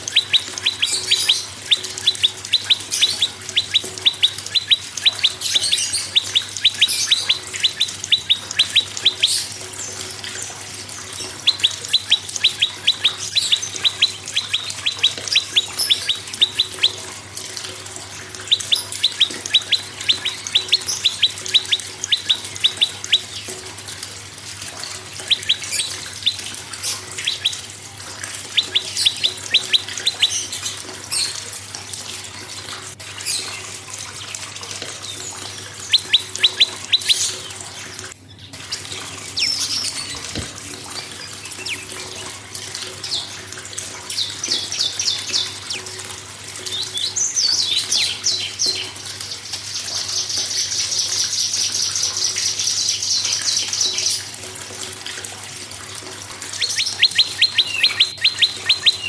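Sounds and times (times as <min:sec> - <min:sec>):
bird chirping and trilling: 0:00.0 - 0:32.2, 0:33.1 - 0:54.4, 0:56.3 - 0:59.0.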